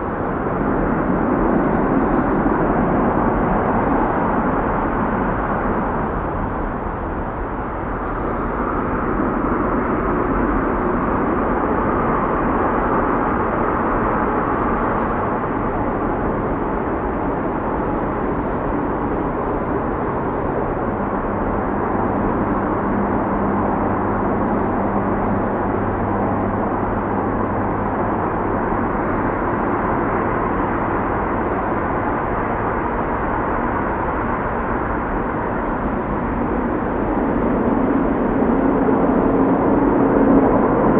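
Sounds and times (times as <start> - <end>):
distant freeway traffic: 0.0 - 40.9
low engine hum: 0.0 - 40.9.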